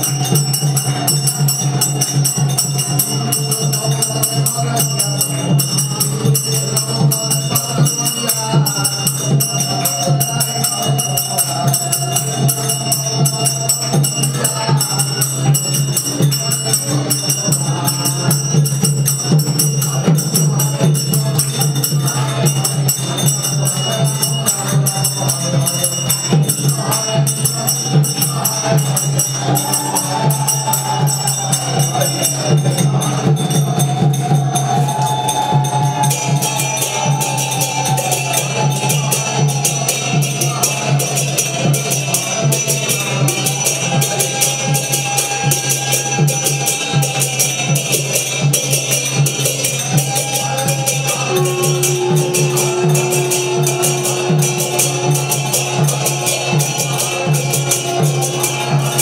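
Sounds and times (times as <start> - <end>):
bright metallic ringing: 0.0 - 59.0
group devotional singing: 0.0 - 59.0
jingling hand percussion: 0.0 - 59.0.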